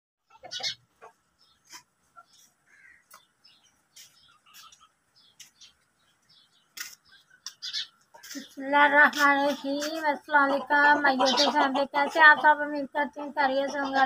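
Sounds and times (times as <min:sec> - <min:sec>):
birds chirping: 0:00.2 - 0:14.0.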